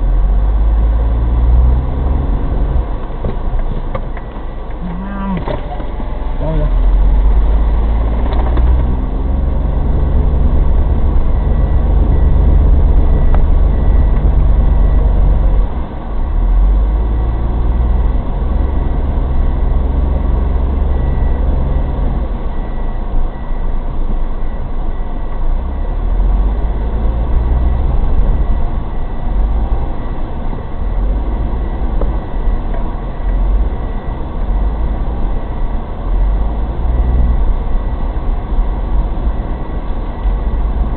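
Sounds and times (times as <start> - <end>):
car engine rumbling under load: 0.0 - 40.9.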